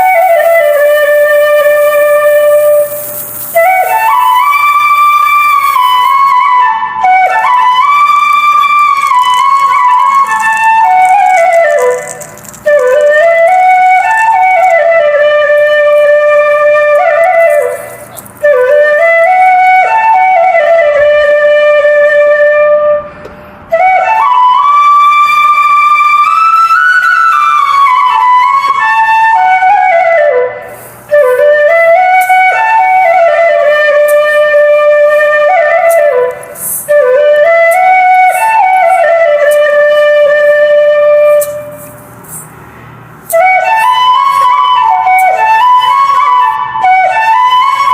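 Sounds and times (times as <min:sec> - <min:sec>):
flute melody: 0:00.0 - 0:42.5, 0:43.2 - 0:47.9.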